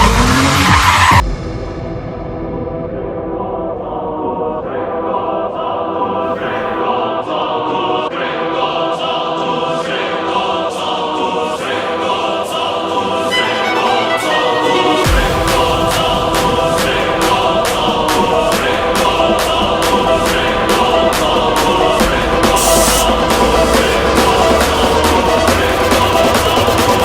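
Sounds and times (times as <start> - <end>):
choir singing: 3.4 - 27.0.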